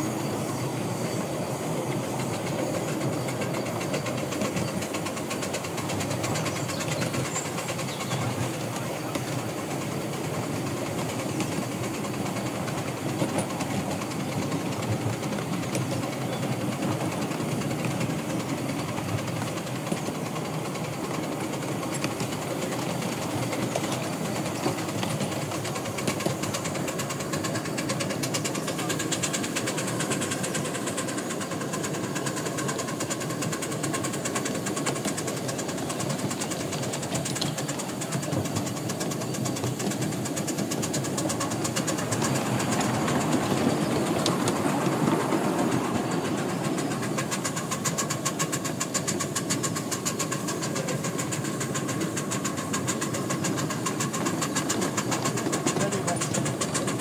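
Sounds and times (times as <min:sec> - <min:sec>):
steam blowing out: 0:00.0 - 0:57.0
steam locomotive exhaust beats: 0:00.0 - 0:57.0
wheels on rails: 0:00.0 - 0:57.0.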